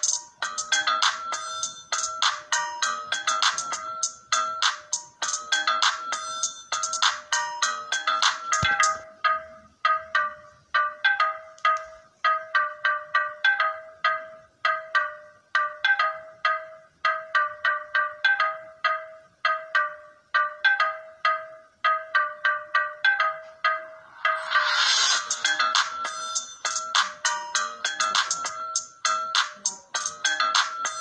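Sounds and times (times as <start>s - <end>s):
marimba-like ringtone melody: 0.0s - 31.0s.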